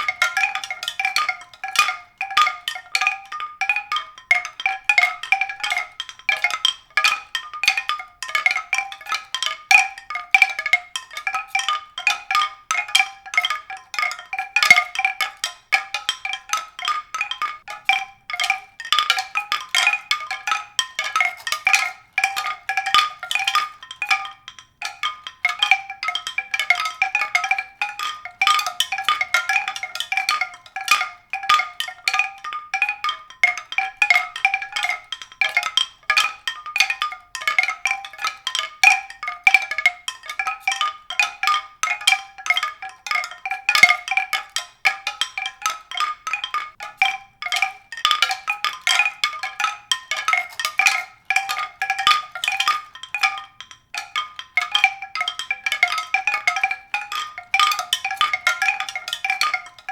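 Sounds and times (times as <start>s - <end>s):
pitched percussion struck rapidly: 0.0s - 59.9s.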